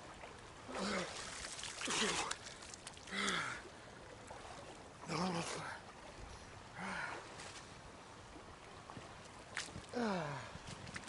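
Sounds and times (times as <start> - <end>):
shallow stream running: 0.0 - 11.0.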